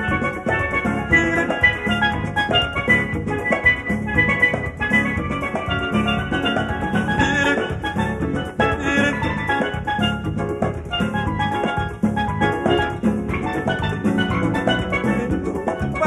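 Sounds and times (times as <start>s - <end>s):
live band bass and drums: 0.0s - 16.0s
steel pan solo: 0.0s - 16.0s.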